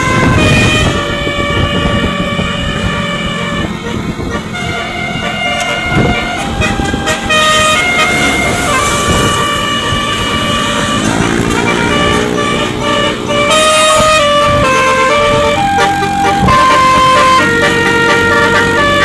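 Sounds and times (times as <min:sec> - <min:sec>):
bus engine: 0:00.0 - 0:19.0
musical bus horn tune: 0:00.0 - 0:19.0.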